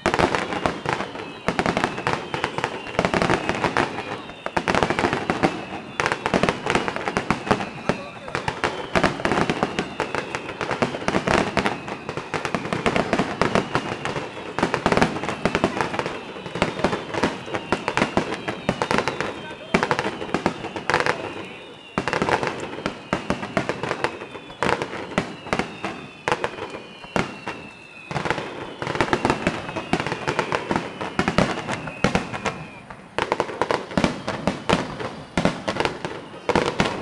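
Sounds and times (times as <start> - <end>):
descending fireworks whistles: 0.0 - 37.0
fireworks bursting: 0.0 - 37.0.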